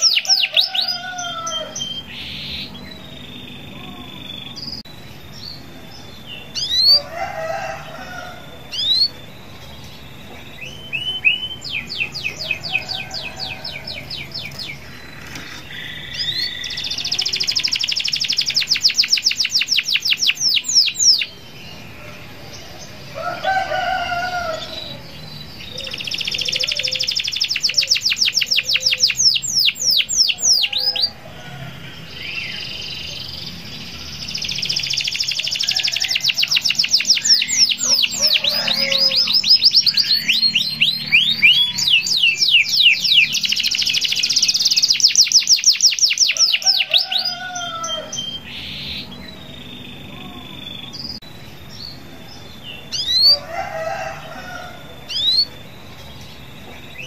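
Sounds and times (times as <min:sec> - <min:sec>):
canary singing fast trills: 0:00.0 - 0:57.0.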